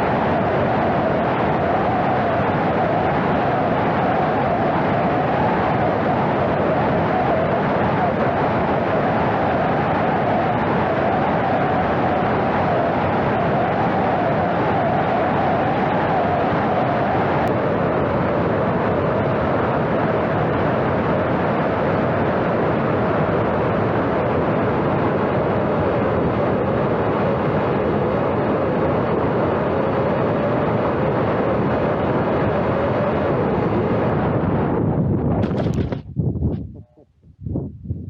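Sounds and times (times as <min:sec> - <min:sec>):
wind rushing: 0:00.0 - 0:38.0.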